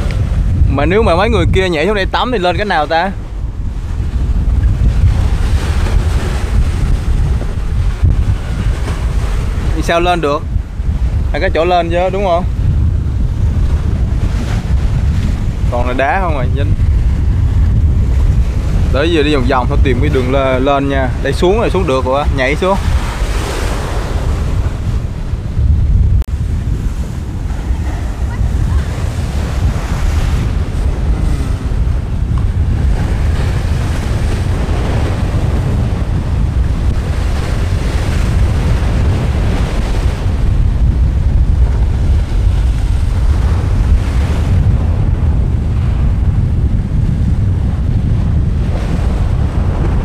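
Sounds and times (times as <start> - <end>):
waves breaking against rocks: 0.0 - 25.5, 26.2 - 50.0
wind buffeting microphone: 0.0 - 50.0.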